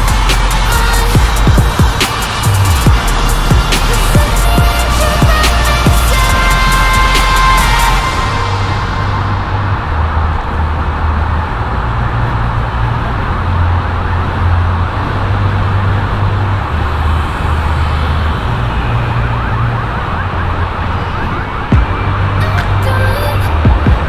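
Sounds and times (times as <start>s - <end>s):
background music with bass line: 0.0s - 24.0s.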